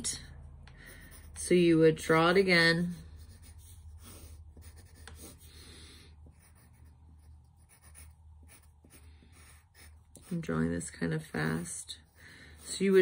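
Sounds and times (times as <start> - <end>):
faint low hum: 0.0 - 13.0
pencil scratching on paper: 0.8 - 13.0.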